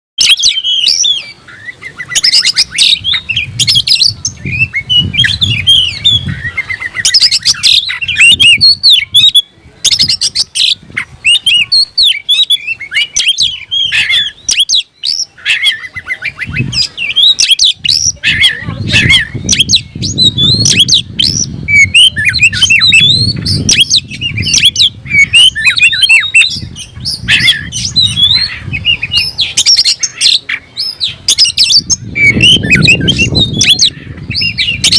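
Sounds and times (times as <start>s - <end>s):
magpie-robin singing: 0.2s - 34.9s.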